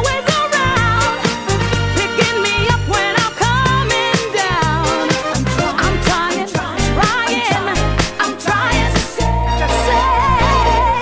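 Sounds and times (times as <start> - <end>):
disco music: 0.0 - 11.0.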